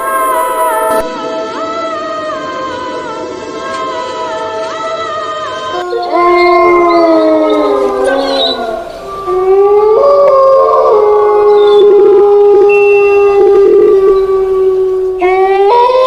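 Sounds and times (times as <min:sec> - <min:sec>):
dogs howling: 0:00.0 - 0:16.0.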